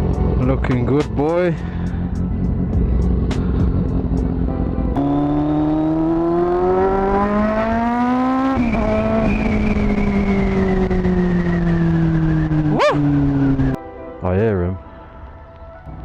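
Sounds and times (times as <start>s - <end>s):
motorcycle engine accelerating: 0.0s - 13.8s.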